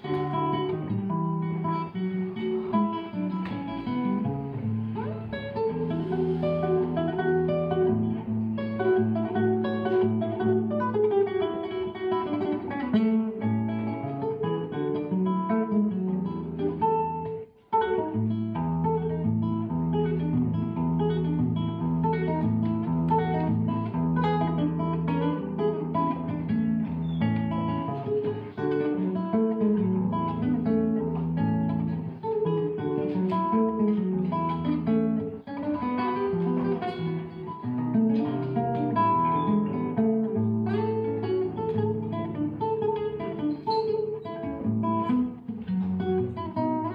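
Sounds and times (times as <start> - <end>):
classical guitar fingerpicking: 0.0 - 46.9.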